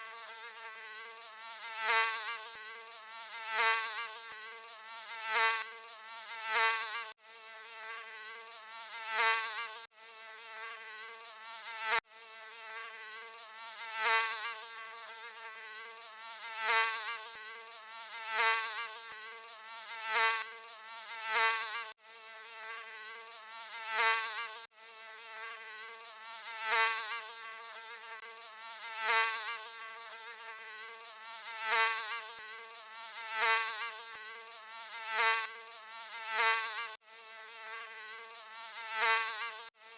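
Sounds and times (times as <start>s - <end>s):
mosquito buzzing: 0.0s - 39.9s.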